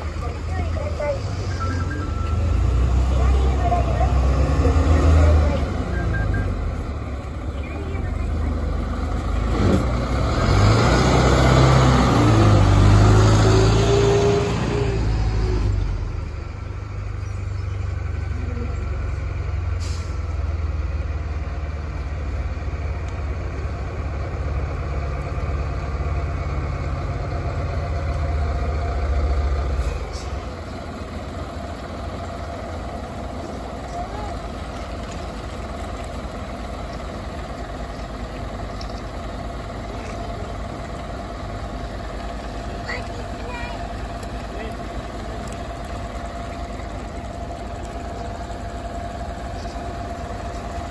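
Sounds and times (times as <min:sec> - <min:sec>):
fire truck diesel engines passing: 0:00.0 - 0:50.9.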